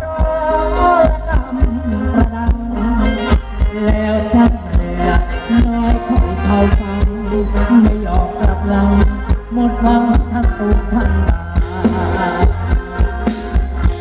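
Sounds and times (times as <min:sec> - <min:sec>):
dance band music: 0:00.0 - 0:14.0
heavy bass line: 0:00.0 - 0:14.0
steady drum beat: 0:00.0 - 0:14.0.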